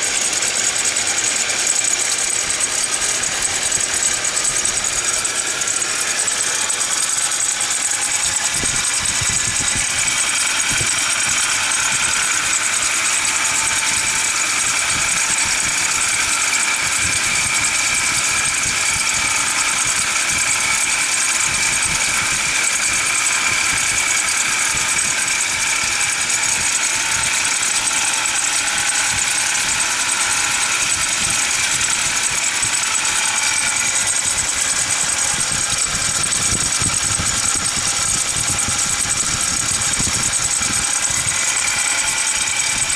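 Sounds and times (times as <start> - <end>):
car engine running: 0.0 - 42.9
high whine from fan belt: 0.0 - 42.9.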